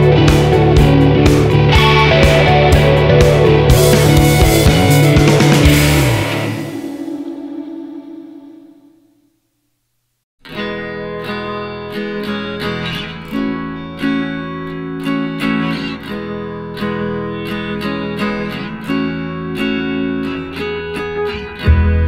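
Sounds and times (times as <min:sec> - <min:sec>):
acoustic guitar plucked notes: 0:00.0 - 0:09.2, 0:10.5 - 0:22.0.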